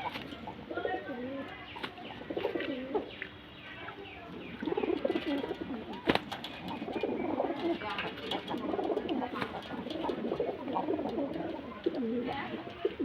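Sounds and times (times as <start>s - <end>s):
pigeons cooing: 0.0s - 13.0s
small birds chirping: 0.0s - 13.0s.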